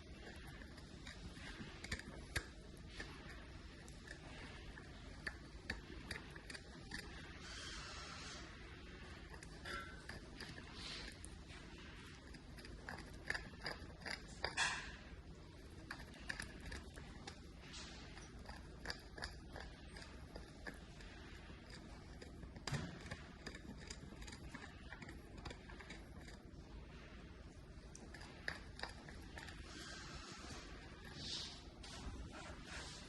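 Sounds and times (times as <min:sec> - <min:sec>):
puppy gnawing on antler: 0:00.0 - 0:32.7.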